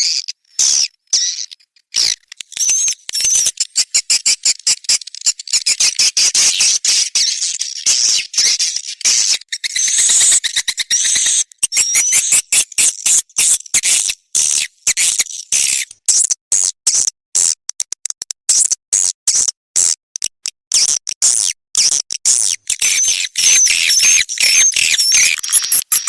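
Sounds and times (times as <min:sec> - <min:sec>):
swiftlet clicks and twittering chirps: 0:00.0 - 0:26.0.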